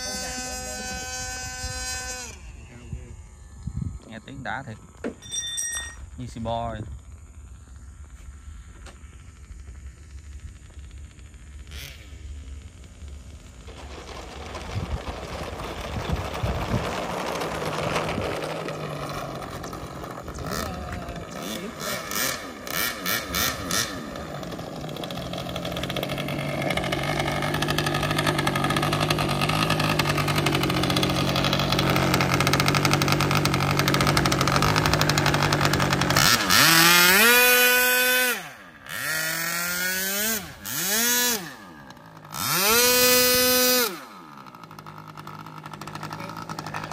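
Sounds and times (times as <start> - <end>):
model plane engine revving and idling: 0.0 - 5.1, 6.2 - 46.9.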